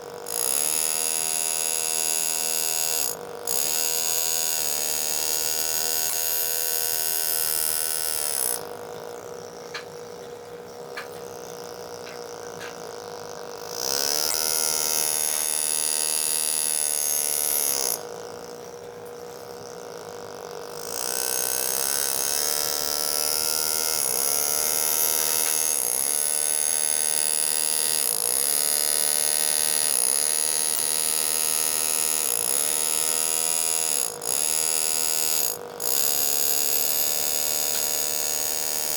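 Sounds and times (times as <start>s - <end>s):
engraving handpiece buzzing on steel: 0.0s - 10.1s, 10.8s - 38.9s.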